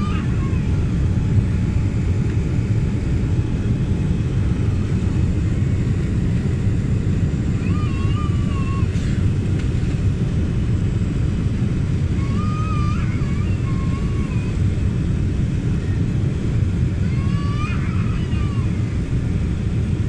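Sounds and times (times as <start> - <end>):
airliner cabin rumble: 0.0 - 20.0.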